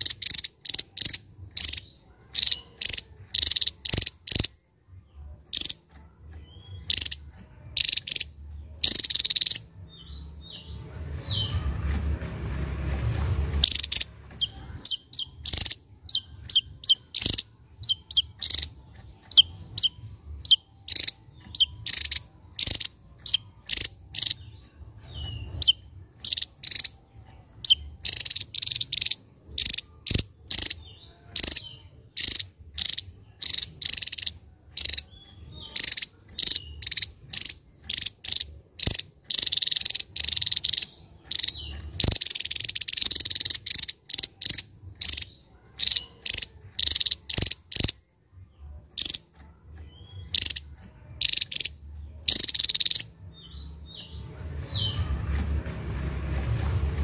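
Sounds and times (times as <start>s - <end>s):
bird singing high-pitched notes: 0.0s - 11.9s, 13.5s - 55.2s.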